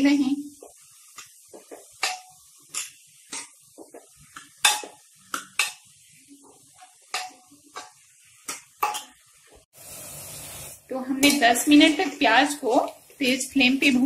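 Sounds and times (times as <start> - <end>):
onions frying: 0.0 - 14.0.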